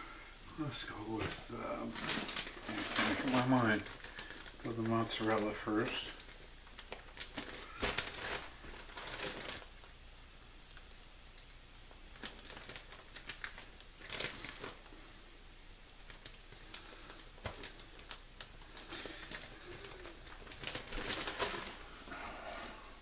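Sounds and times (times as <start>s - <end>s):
plastic bag crinkling: 0.6s - 10.0s, 12.1s - 22.6s.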